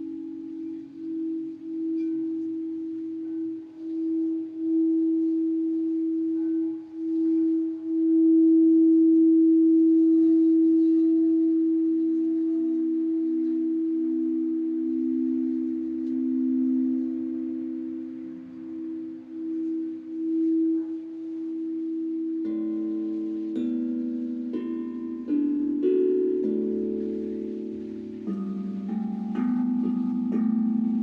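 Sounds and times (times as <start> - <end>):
crystal singing bowls ringing: 0.0 - 31.0.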